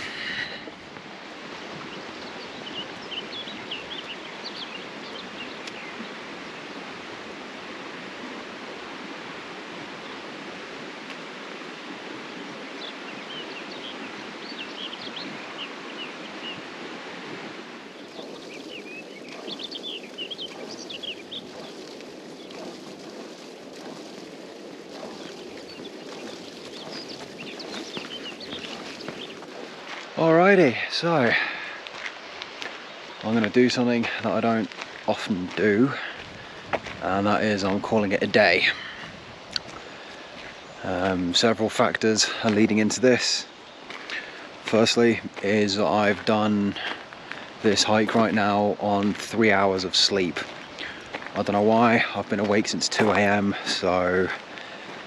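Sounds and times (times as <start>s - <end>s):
small birds chirping: 0.0s - 7.0s, 12.0s - 55.0s
river water rushing: 0.0s - 55.0s.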